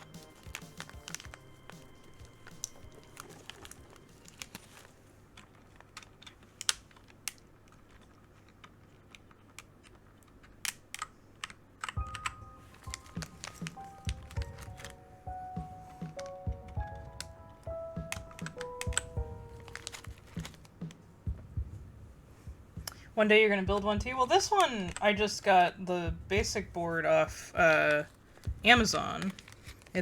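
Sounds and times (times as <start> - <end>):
mechanical keyboard keys clacking: 0.0 - 21.6, 23.6 - 30.0.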